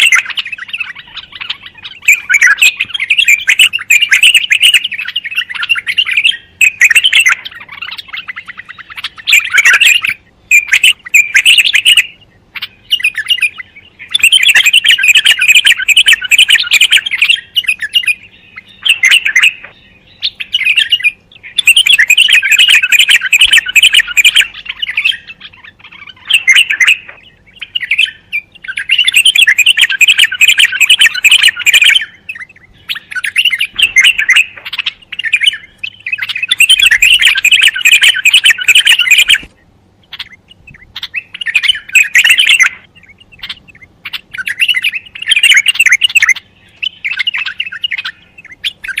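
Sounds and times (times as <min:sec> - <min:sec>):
songbird chattering and calling: 0:00.0 - 0:49.0.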